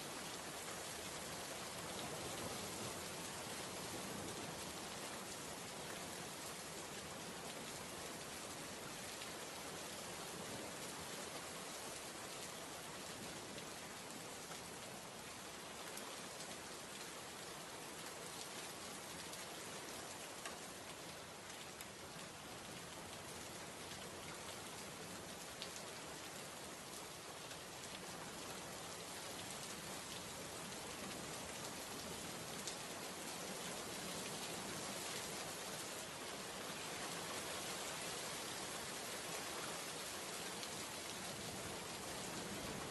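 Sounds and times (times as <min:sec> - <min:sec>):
heavy rain on hard surface: 0:00.0 - 0:42.9.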